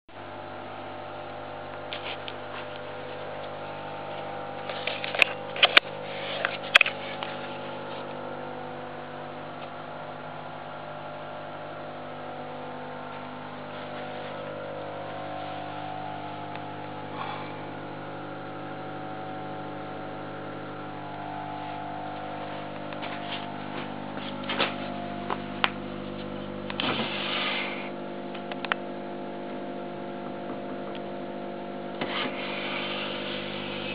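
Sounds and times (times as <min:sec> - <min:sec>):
steady electrical hum: 0:00.1 - 0:33.9.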